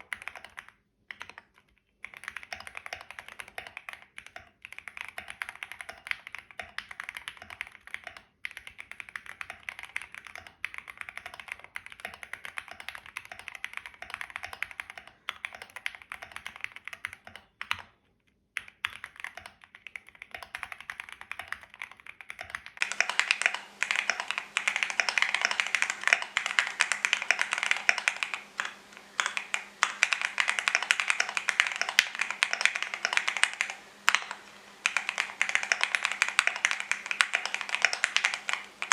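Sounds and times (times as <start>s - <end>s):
mechanical keyboard typing: 0.0s - 18.0s, 18.6s - 38.9s.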